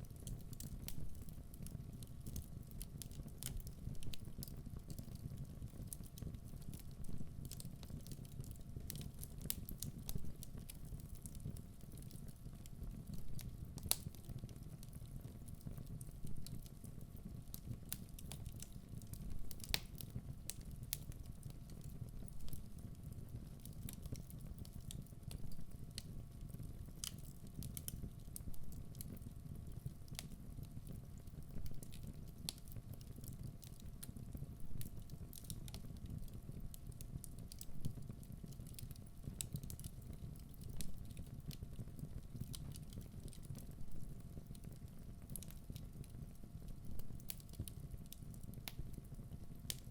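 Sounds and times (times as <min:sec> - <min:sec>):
burning logs crackling and popping: 0:00.0 - 0:49.9
low rumble of flames: 0:00.0 - 0:49.9.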